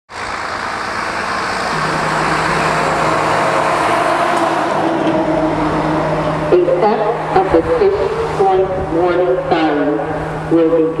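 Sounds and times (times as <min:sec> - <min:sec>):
steady rushing noise: 0:00.2 - 0:11.0.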